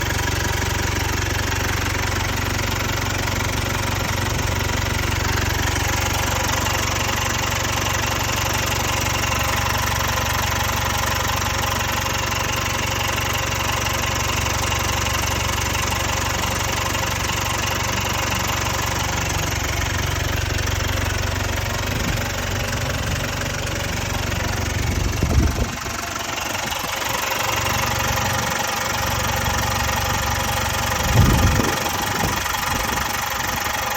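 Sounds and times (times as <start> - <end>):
diesel engine idling: 0.0 - 33.9
engine rattling: 0.0 - 33.9.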